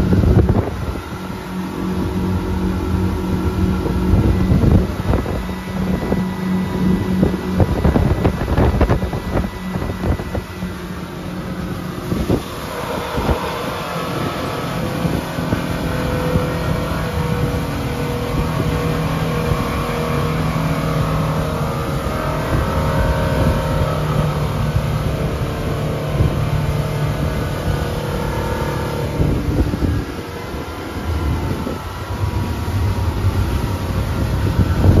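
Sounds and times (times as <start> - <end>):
motorboat engine running: 0.0 - 35.0
water noise: 0.0 - 35.0
wind: 0.0 - 35.0.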